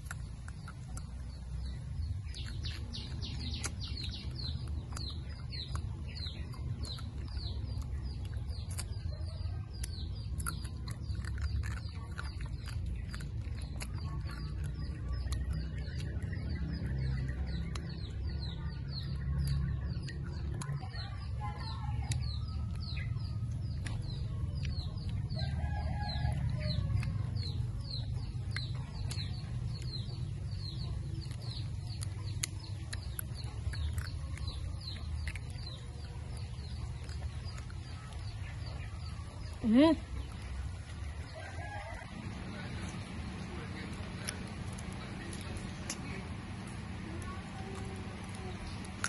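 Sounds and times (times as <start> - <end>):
bird chirping: 0.0 - 49.0
chewing and biting: 0.0 - 49.0.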